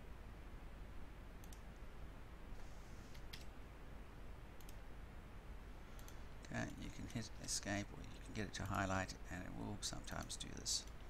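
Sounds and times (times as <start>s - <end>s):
faint microphone hiss: 0.0s - 11.0s.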